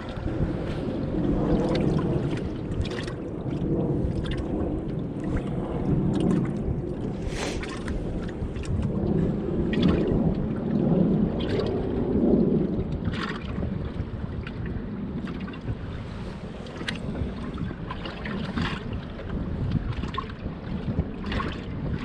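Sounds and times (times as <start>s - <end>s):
water lapping against hull: 0.0s - 22.0s
wind buffeting microphone: 0.0s - 22.0s.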